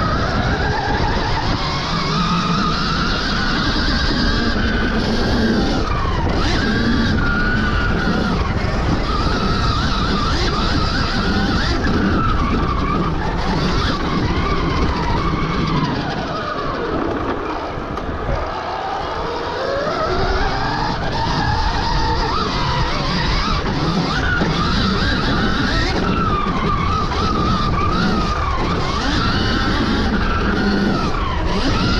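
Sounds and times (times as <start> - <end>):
electric motor whine: 0.0 - 31.9
wind rush: 0.0 - 31.9.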